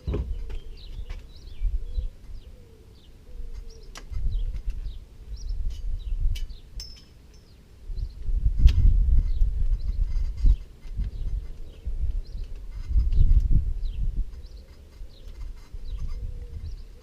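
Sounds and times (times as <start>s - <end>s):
gusty low rumbling: 0.0s - 2.7s, 3.3s - 6.8s, 7.8s - 17.0s
small birds chirping: 0.0s - 17.0s.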